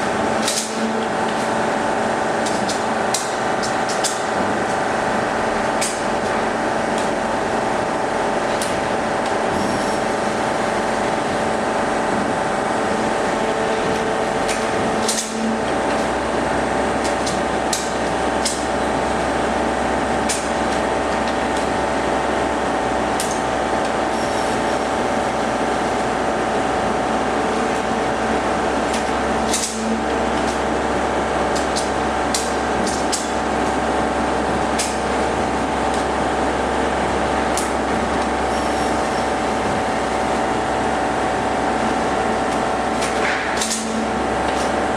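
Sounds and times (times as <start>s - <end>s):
hydraulic baler drone: 0.0s - 44.9s.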